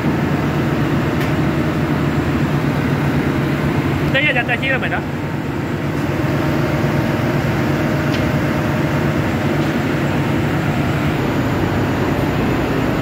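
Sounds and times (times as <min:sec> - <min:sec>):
heavy machinery droning: 0:00.0 - 0:13.0.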